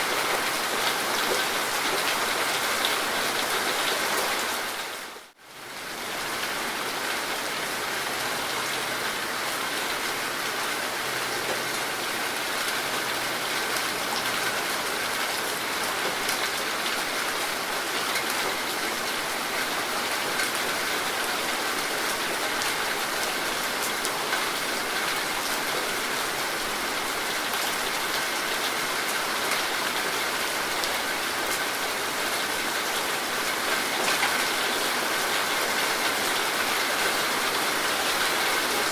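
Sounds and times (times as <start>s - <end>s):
rain falling on surfaces: 0.0s - 38.9s.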